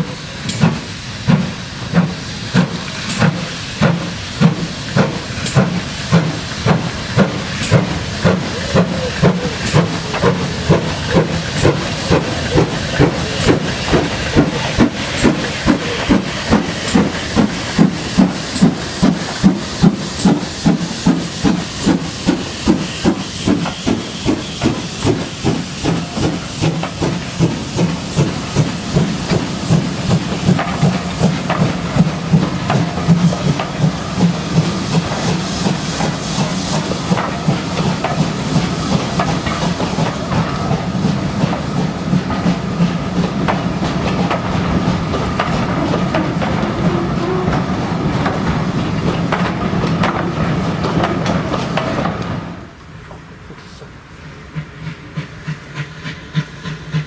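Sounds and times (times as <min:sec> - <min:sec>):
steam locomotive chuffing: 0:00.0 - 0:57.0
train running noise: 0:00.0 - 0:57.0.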